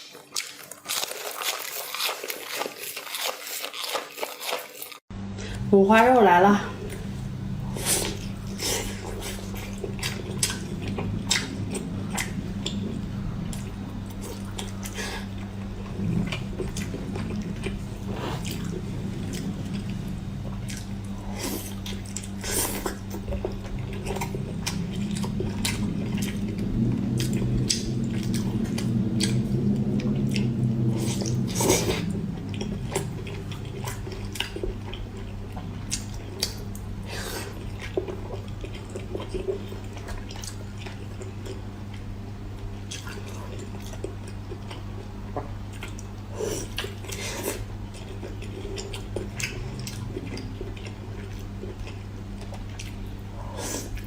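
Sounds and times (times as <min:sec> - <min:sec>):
chewing with wet smacks: 0:00.0 - 0:05.0, 0:06.8 - 0:54.0
low hum: 0:05.1 - 0:54.0.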